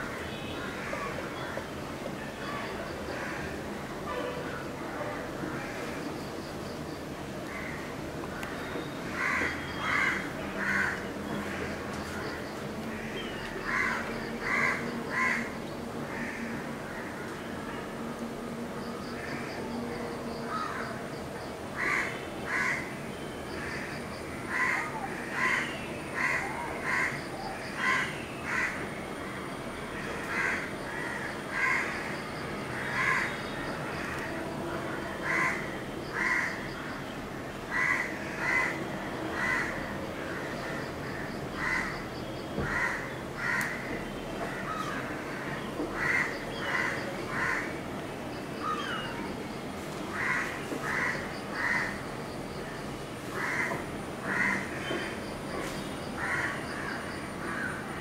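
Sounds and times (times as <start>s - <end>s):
outdoor background noise: 0.0s - 58.0s.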